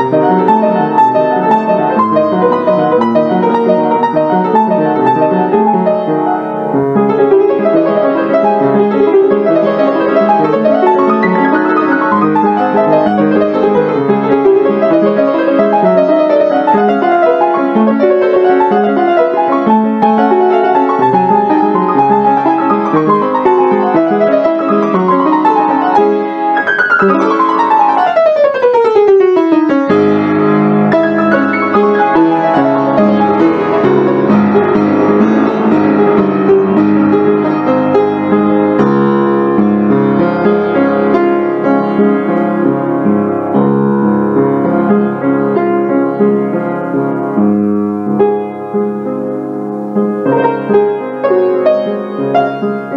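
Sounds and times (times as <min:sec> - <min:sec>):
piano music: 0:00.0 - 0:52.9.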